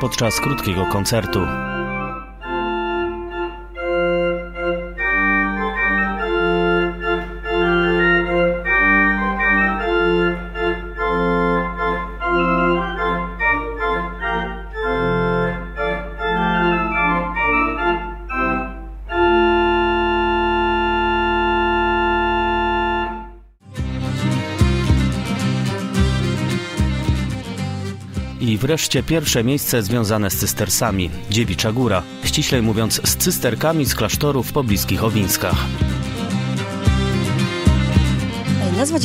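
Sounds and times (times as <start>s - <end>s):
pipe organ playing: 0.0s - 28.9s, 29.6s - 39.0s.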